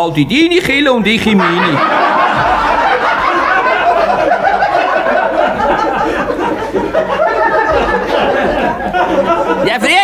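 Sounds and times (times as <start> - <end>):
audience laughing: 1.1 - 10.0.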